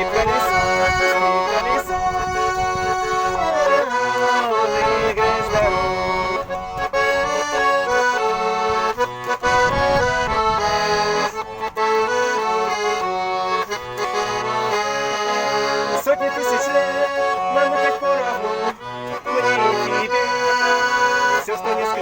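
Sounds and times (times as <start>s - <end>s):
button accordion playing melody: 0.0s - 22.0s.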